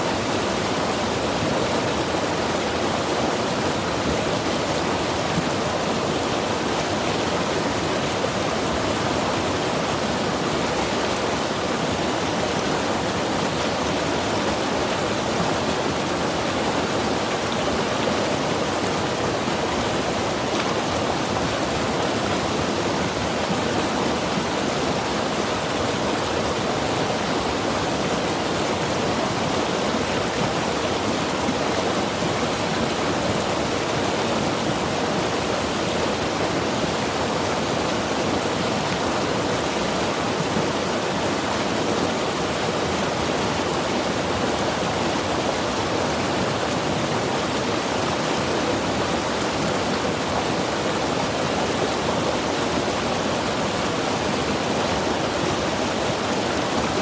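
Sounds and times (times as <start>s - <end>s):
mountain river rushing: 0.0s - 57.0s.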